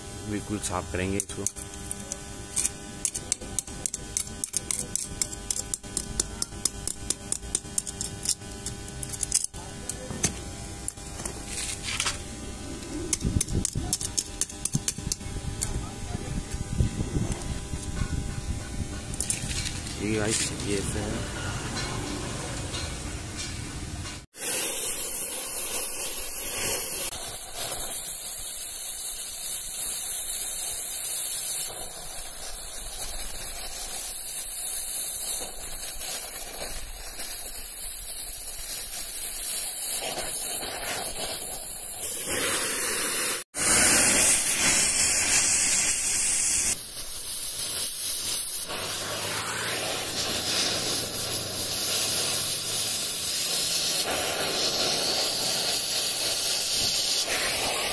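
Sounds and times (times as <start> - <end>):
gas cutting torch hissing: 0.0 - 21.5, 24.2 - 57.9.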